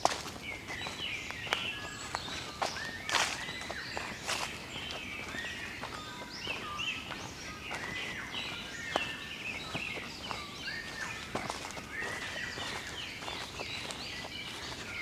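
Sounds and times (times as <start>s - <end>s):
birds whistling: 0.8s - 15.0s.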